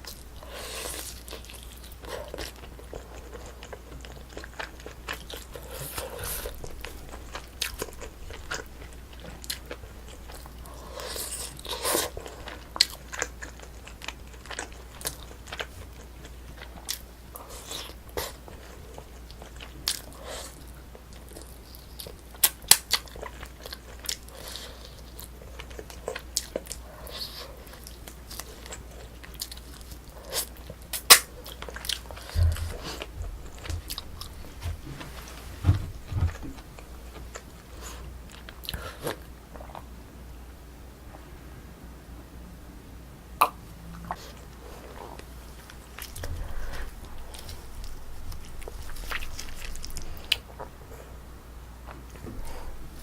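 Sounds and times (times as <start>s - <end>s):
close chewing and biting: 0.0s - 35.0s, 43.4s - 50.8s.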